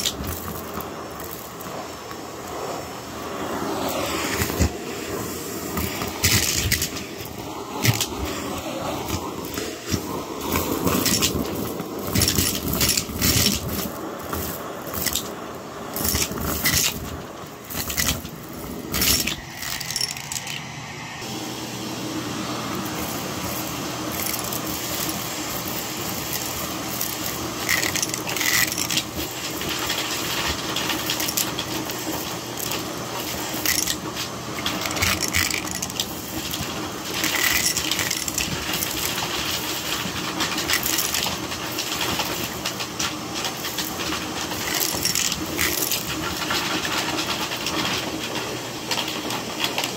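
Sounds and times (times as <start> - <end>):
debris crackling and rattling: 0.0 - 2.5, 5.7 - 20.6, 22.7 - 49.9
vacuum cleaner humming: 0.0 - 49.9.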